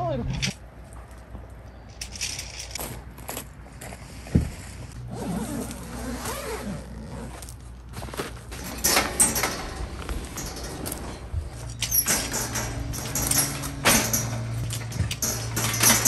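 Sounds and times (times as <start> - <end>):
rustling of camping gear: 0.7 - 16.0.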